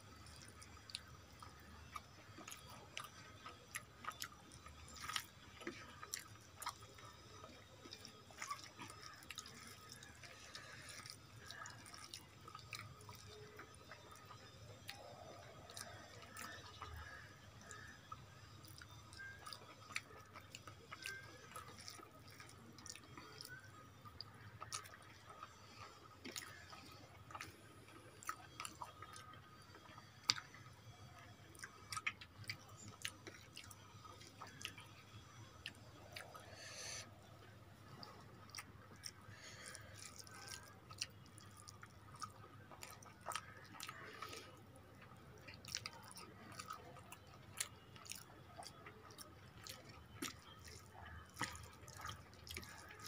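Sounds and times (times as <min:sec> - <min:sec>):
chewing: 0:00.1 - 0:53.0
fingers mixing rice with curry: 0:00.1 - 0:53.0.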